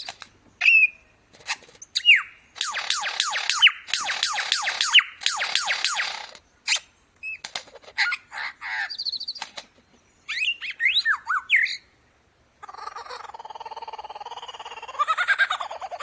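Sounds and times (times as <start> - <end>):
lyrebird singing: 0.0 - 12.0, 12.6 - 16.0.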